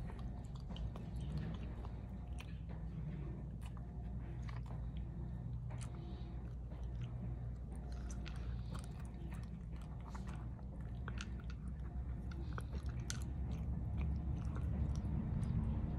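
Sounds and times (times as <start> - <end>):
dog chewing wet food: 0.0 - 15.9
low hum: 0.0 - 15.9.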